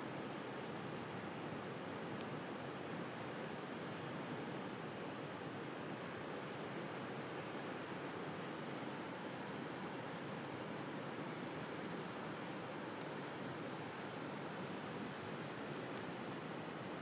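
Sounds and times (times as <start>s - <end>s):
bonfire crackles: 0.0s - 17.0s.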